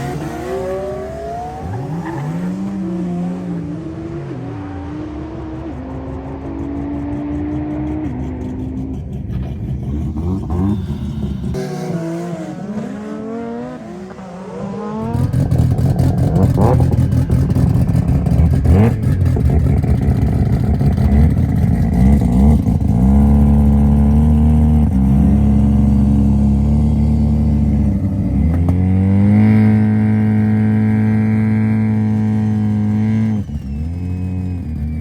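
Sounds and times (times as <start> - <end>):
car engines revving: 0.0 - 35.0
louder engine revving high: 0.0 - 35.0.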